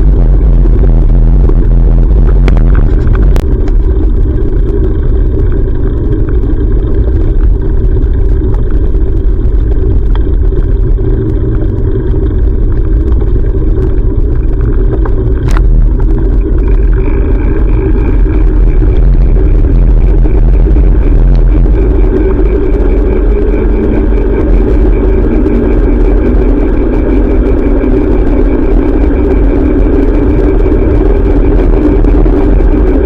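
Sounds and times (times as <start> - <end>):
road noise: 0.0 - 33.0
sharp clicks and rattles: 0.0 - 33.0
wind buffeting: 0.0 - 33.0.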